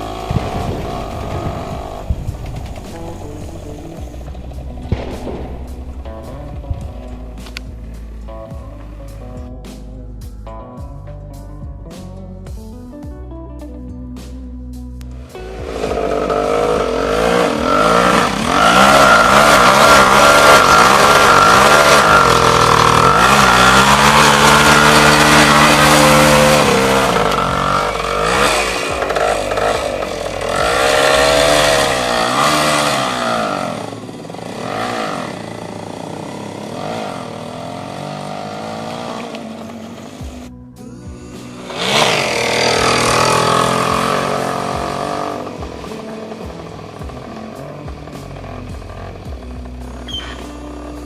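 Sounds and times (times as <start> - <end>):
motorcycle engine revving: 0.0 - 9.5, 15.1 - 51.0.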